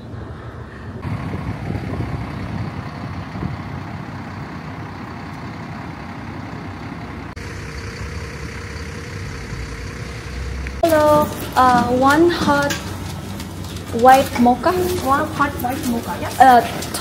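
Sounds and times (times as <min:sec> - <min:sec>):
vehicles rumbling: 0:00.0 - 0:17.0.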